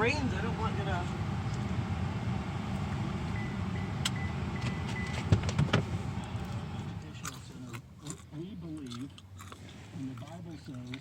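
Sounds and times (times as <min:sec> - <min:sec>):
low rumble inside car: 0:00.0 - 0:11.0.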